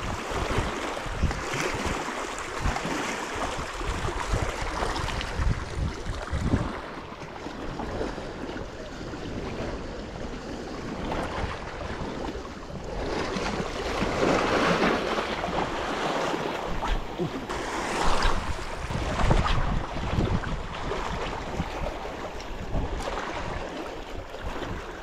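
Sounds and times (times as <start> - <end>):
small waves washing on shore: 0.0 - 25.0
wind buffeting microphone: 0.0 - 25.0.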